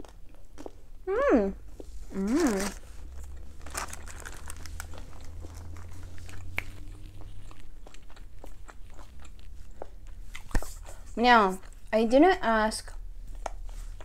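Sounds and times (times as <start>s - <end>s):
person chewing crunchy food: 0.0s - 1.0s, 1.7s - 12.0s.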